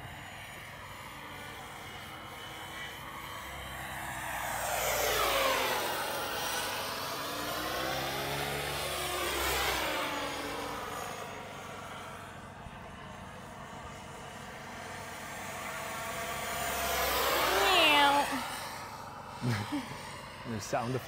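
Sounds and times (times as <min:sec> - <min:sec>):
radio-controlled helicopter turbine: 0:00.0 - 0:21.0.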